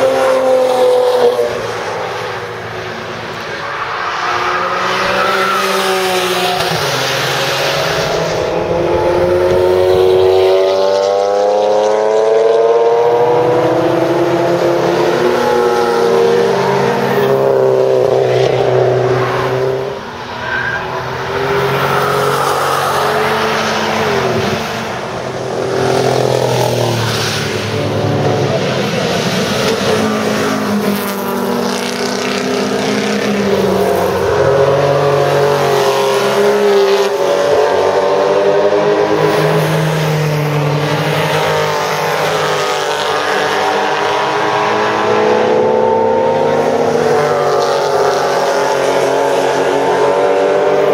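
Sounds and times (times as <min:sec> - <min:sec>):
racing car engines revving: 0:00.0 - 0:50.9.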